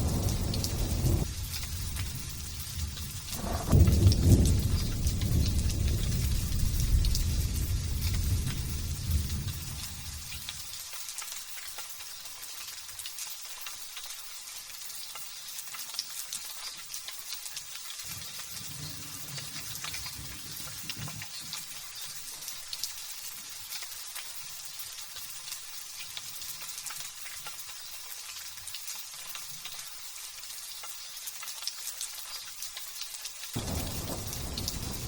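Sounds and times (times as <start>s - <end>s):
light drizzling rain: 0.0s - 35.0s.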